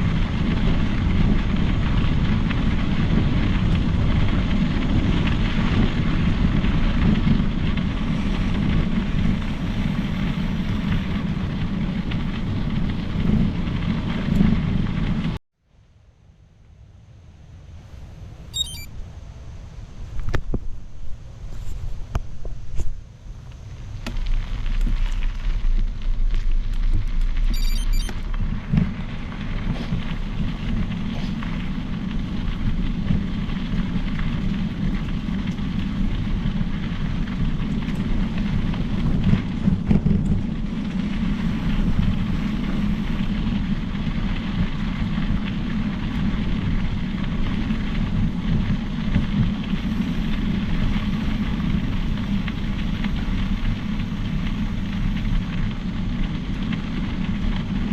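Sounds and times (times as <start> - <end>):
bike tyres rolling on trail: 0.0 - 15.4, 19.2 - 57.9
wind rushing over microphone: 0.0 - 15.4, 17.3 - 57.9.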